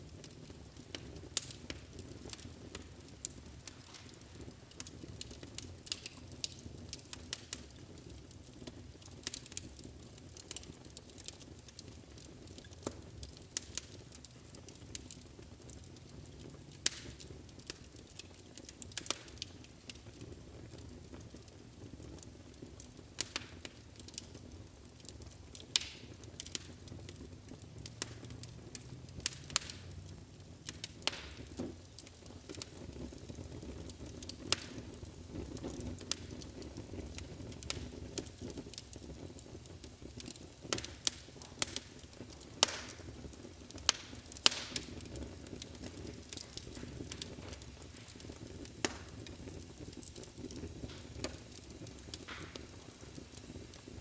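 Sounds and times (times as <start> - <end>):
fire crackling and popping: 0.0 - 54.0
wood fire rumbling: 0.0 - 54.0.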